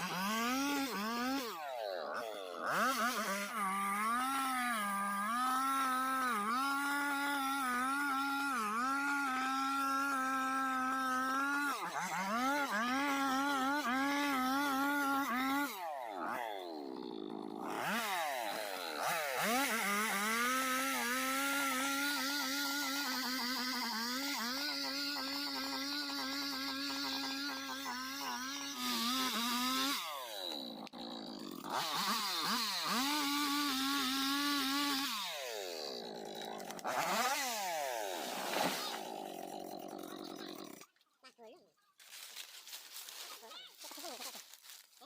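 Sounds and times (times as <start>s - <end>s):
chainsaw engine revving: 0.0s - 41.0s.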